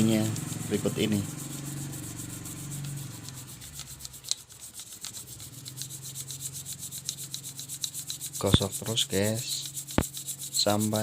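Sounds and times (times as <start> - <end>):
hand scrubbing on metal: 0.0 - 11.0.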